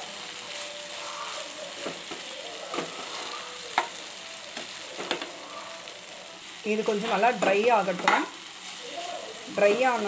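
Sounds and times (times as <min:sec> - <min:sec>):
okra sizzling in hot oil: 0:00.0 - 0:10.0.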